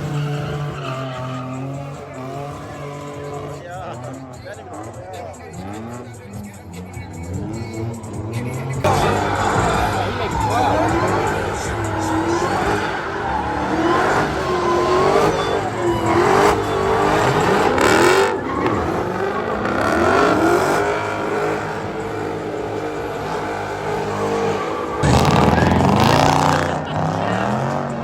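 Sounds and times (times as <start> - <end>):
car engines revving: 0.0 - 28.0
tires squealing: 0.0 - 28.0.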